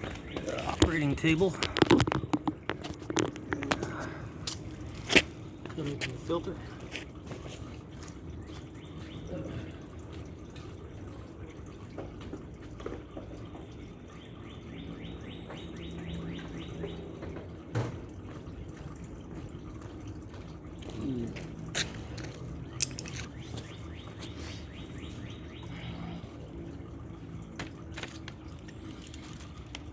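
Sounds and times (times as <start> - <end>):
oil dripping and trickling: 0.0 - 29.9.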